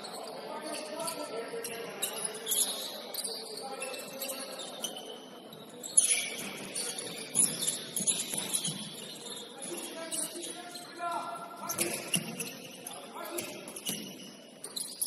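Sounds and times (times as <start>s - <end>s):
sneakers squeaking on court: 0.1s - 15.0s.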